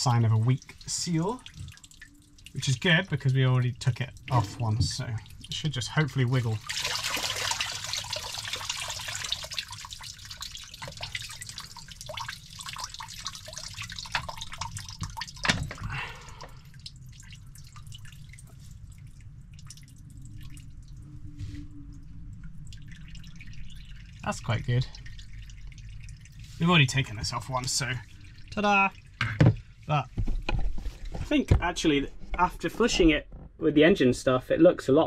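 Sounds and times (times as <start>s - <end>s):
water dripping and trickling: 0.0s - 31.3s.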